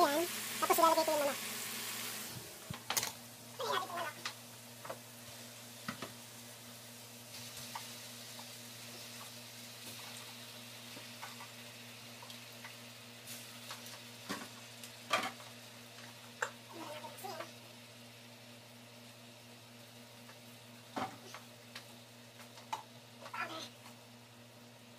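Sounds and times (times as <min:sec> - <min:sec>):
chicken wings sizzling in a frying pan: 0:00.0 - 0:24.9.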